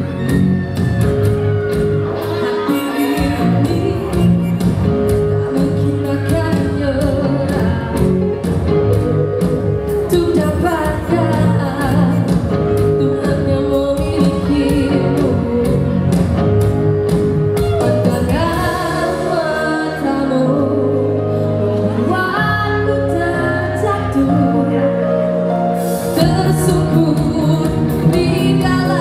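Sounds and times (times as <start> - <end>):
live pop-rock band: 0.0 - 29.0
woman singing: 2.2 - 16.8, 17.8 - 25.5, 26.1 - 29.0.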